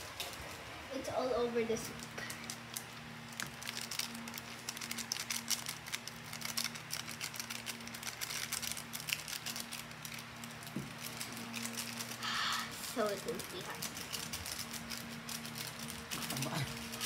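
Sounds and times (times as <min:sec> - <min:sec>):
foil sachet crinkling: 0:00.0 - 0:17.0.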